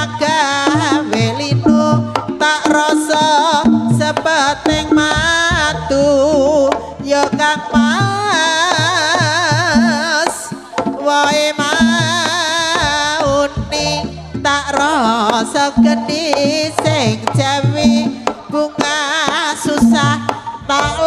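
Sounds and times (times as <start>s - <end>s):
hand drum strokes: 0.0s - 21.0s.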